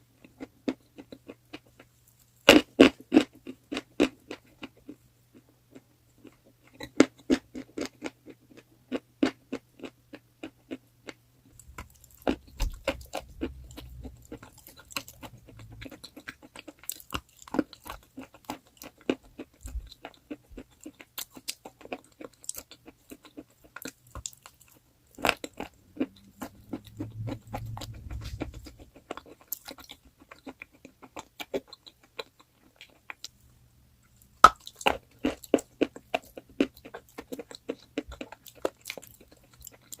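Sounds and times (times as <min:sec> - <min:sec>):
chalk being chewed: 0:00.2 - 0:33.4, 0:34.2 - 0:40.0.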